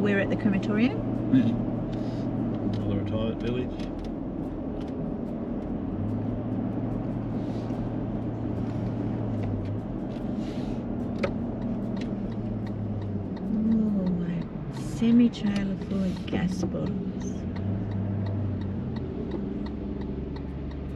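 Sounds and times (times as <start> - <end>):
engine and tyre drone: 0.0 - 20.9.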